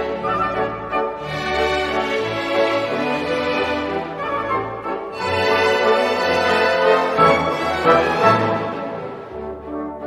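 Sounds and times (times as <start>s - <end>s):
orchestral strings: 0.0s - 10.0s.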